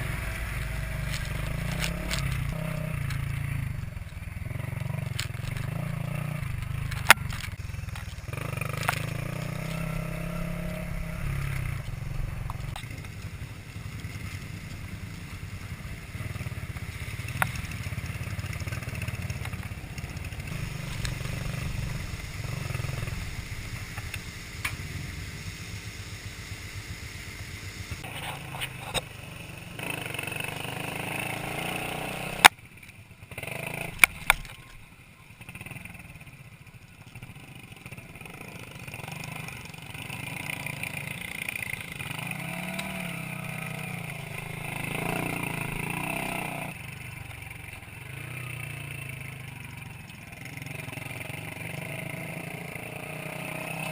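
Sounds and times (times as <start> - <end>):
two-stroke motorcycle engines running: 0.0 - 53.9.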